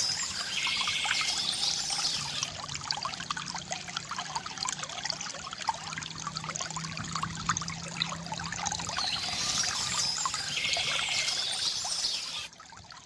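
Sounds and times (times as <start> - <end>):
water pouring into basin: 0.0 - 13.0.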